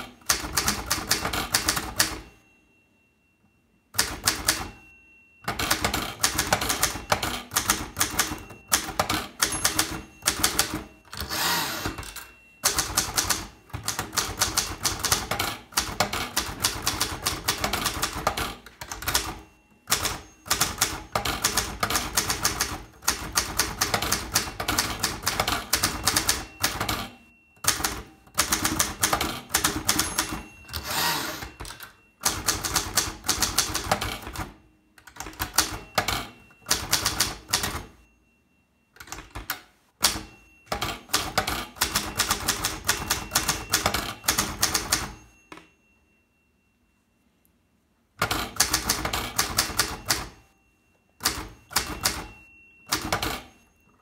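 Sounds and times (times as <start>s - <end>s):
typewriter keys clacking: 0.0s - 2.3s, 4.0s - 4.8s, 5.5s - 37.9s, 39.0s - 45.2s, 48.2s - 50.4s, 51.2s - 52.3s, 52.9s - 53.5s.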